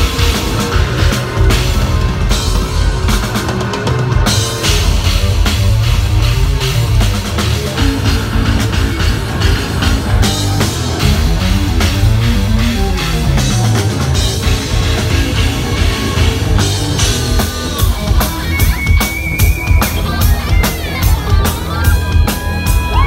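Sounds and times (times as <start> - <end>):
drum kit: 0.0 - 23.0
electric bass: 0.0 - 23.0.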